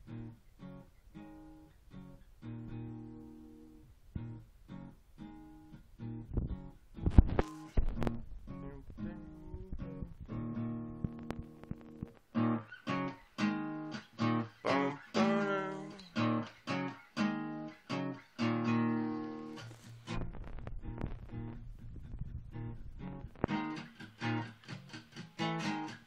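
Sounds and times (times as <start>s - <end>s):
acoustic guitar strumming and picking: 0.0s - 26.0s.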